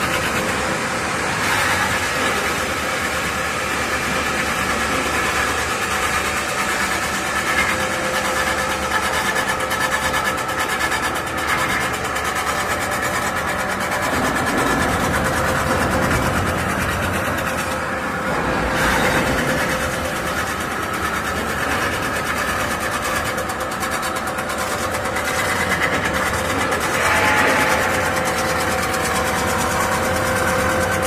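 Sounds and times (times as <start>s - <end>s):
spinning machine whirring: 0.0s - 31.0s.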